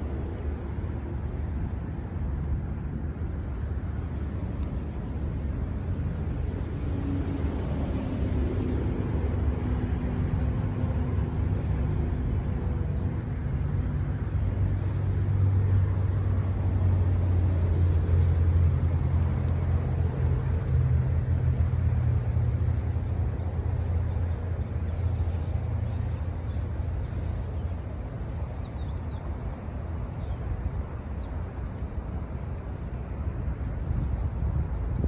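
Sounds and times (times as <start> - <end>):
low engine-like drone: 0.0 - 35.0.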